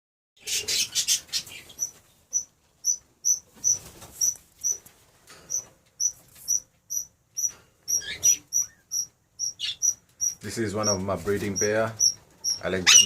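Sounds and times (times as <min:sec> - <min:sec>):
small animal chirping: 0:00.9 - 0:04.8, 0:05.5 - 0:11.0, 0:11.6 - 0:13.0.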